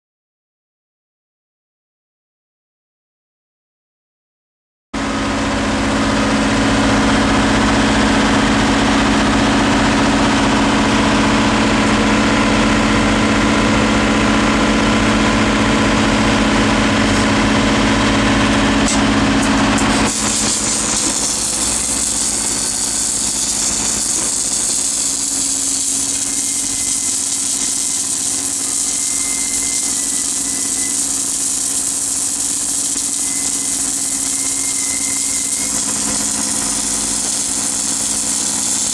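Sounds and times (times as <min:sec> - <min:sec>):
welding machine humming: 0:05.0 - 0:38.9.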